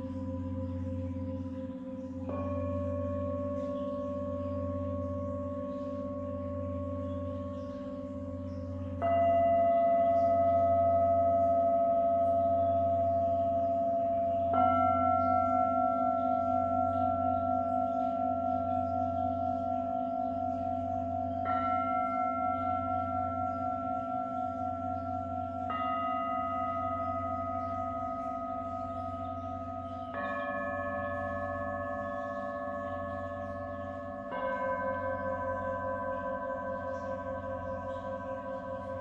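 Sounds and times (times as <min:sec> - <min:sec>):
singing bowls ringing: 0:00.0 - 0:39.0.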